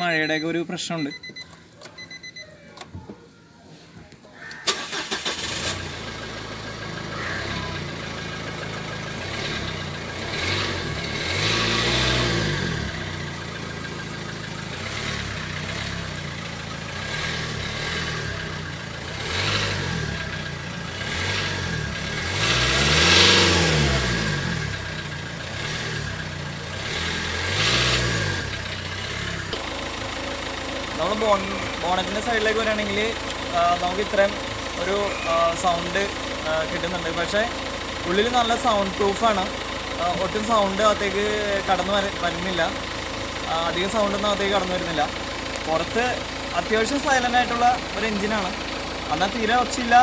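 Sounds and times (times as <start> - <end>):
diesel engine idling and revving: 4.6 - 50.0.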